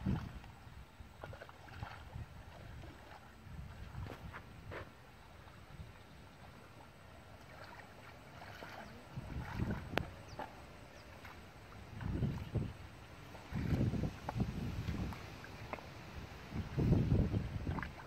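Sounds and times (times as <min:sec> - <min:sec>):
boots sloshing through muddy water: 0:00.0 - 0:05.7, 0:06.3 - 0:18.0.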